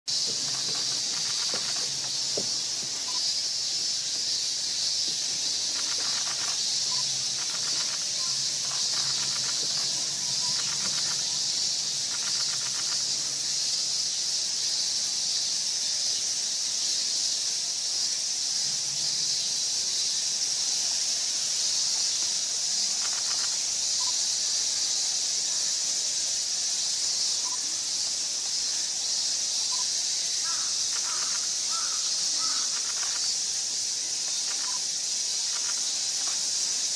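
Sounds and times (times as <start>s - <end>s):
insect chorus drone: 0.1s - 36.9s.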